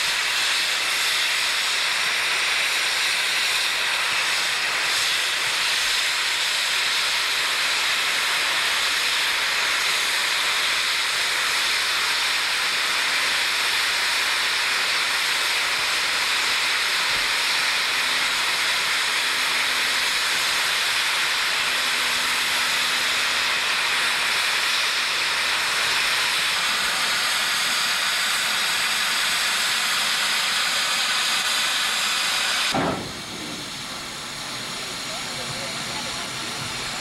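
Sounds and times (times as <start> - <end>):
steam locomotive blowing off steam: 0.0 - 37.0.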